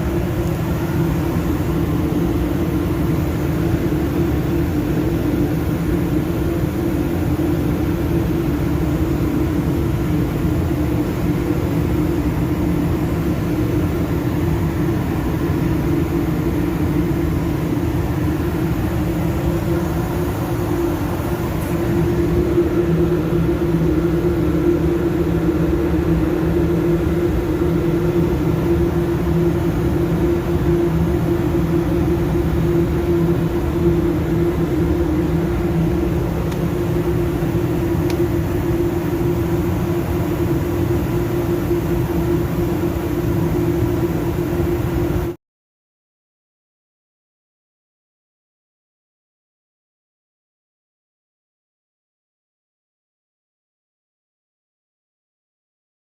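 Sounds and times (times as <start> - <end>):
machine drone with low hum: 0.0 - 45.4.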